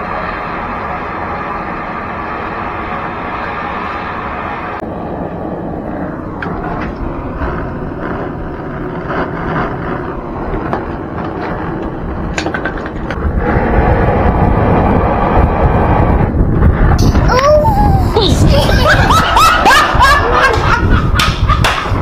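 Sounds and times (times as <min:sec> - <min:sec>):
butane torch hissing: 0:00.0 - 0:20.0.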